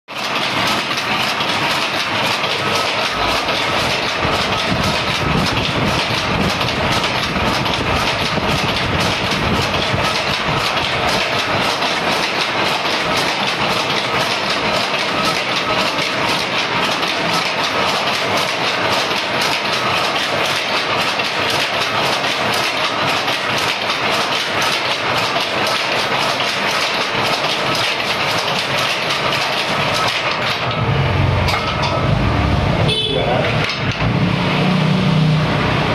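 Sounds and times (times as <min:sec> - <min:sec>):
power loom clattering: 0:00.1 - 0:35.9.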